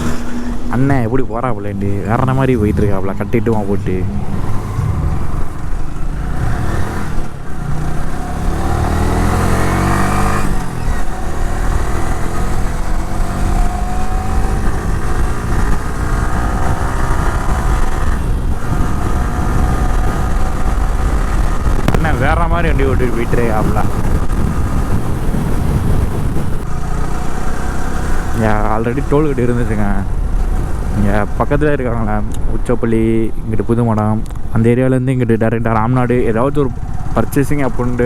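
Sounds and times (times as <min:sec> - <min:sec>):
motorcycle engine accelerating: 0:00.0 - 0:34.5, 0:35.7 - 0:38.0
wind rumble on microphone: 0:00.0 - 0:34.7.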